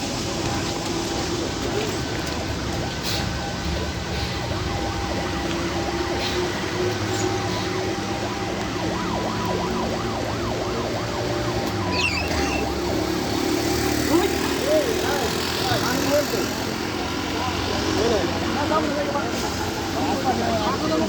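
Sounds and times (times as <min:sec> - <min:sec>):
road traffic engines: 0:00.0 - 0:21.0
warbling siren-like sound: 0:02.8 - 0:16.5, 0:17.2 - 0:21.0.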